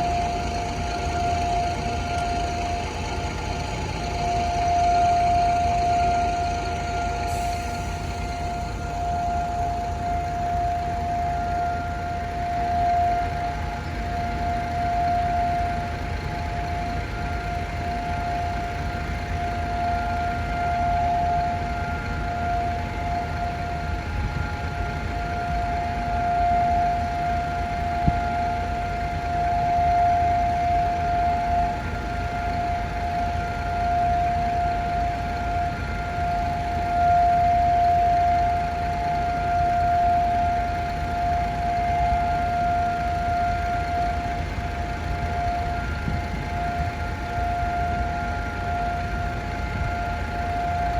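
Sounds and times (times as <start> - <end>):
siren holding a steady tone: 0.0 - 50.9.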